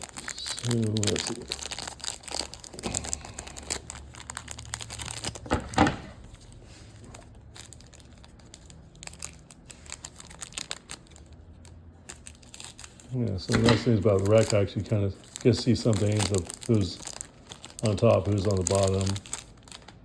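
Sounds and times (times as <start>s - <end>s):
cards rustling and clicking: 0.0s - 20.0s
plastic wrapper tearing and crinkling: 0.0s - 20.0s.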